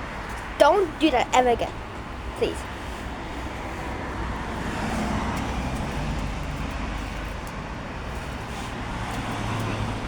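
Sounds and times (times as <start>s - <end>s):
passing motor vehicle rumble: 1.4s - 10.0s.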